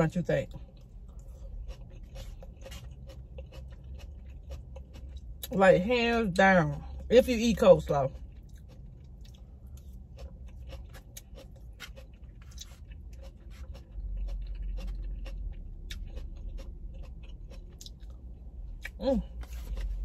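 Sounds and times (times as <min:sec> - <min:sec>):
chewing crunches and mouth clicks: 0:00.0 - 0:20.0.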